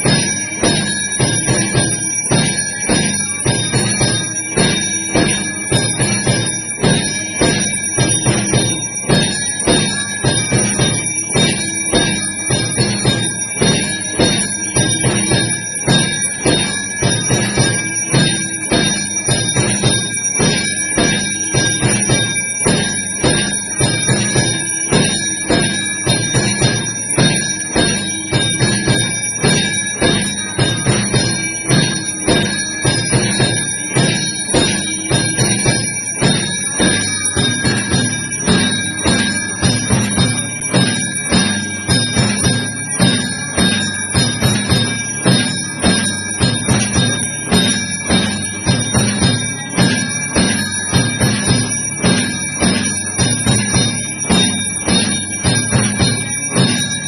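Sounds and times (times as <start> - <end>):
rapid percussive strikes: 0.0 - 57.0
temple bells ringing: 0.0 - 57.0.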